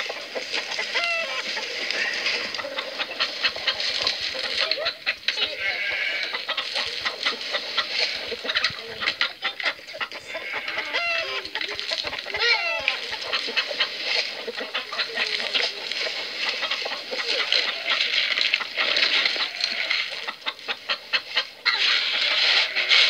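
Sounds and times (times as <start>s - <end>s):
chickens clucking: 0.0s - 23.0s
loud wavering chicken calls: 0.0s - 23.0s.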